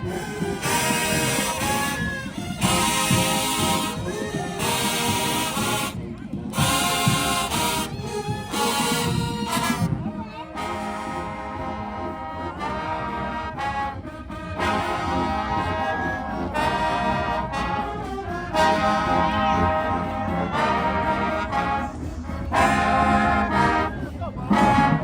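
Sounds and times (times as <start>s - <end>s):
brass section held chords: 0.0s - 25.0s.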